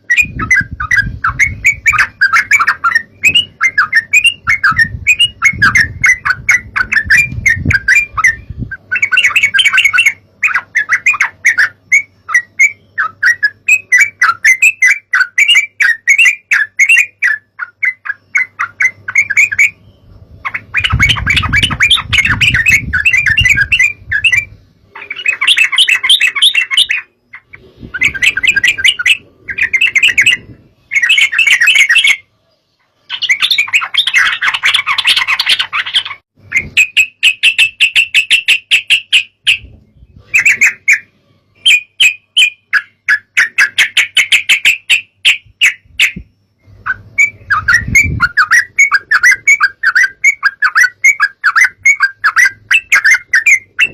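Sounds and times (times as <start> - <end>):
birds chattering: 0.0 - 53.9.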